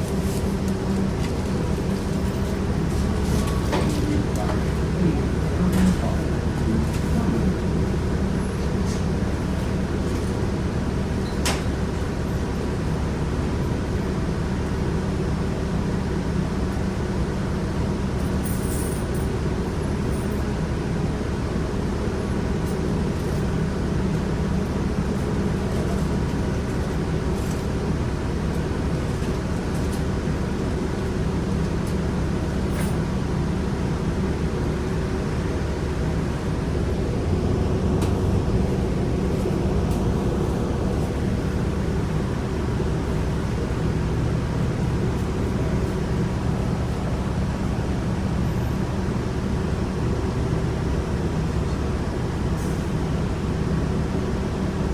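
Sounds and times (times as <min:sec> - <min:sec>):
road noise: 0:00.0 - 0:14.9, 0:24.5 - 0:54.9
bus drivetrain drone: 0:00.0 - 0:54.9.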